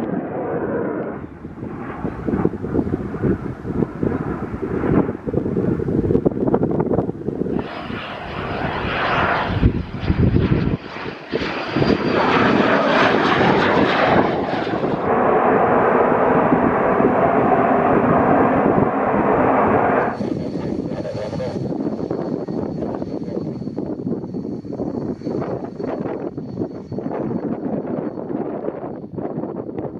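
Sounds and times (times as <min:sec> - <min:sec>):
aircraft engine running: 0:00.0 - 0:29.9
wind buffeting microphone: 0:00.9 - 0:29.9.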